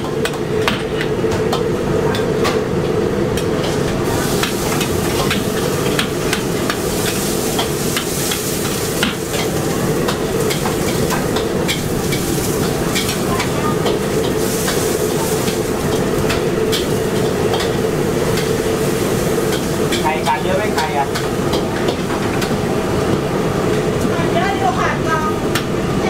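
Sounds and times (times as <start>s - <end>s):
food sizzling: 3.9s - 26.0s.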